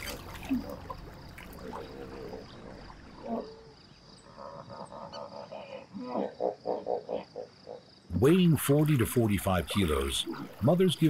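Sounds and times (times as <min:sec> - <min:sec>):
frog chorus: 0:00.0 - 0:11.0.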